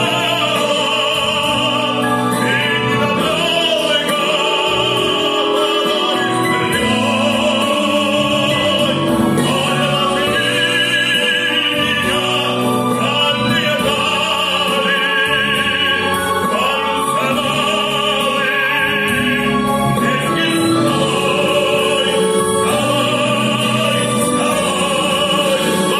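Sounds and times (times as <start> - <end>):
man singing operatically: 0.0 - 25.9
musical backing track: 0.0 - 25.9.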